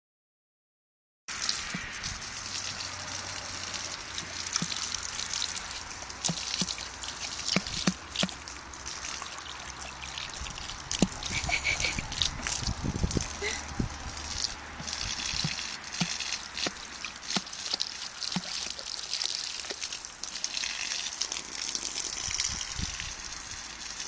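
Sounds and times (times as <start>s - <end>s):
hose spraying water: 1.3s - 24.0s
water splashing and dripping: 1.3s - 24.0s.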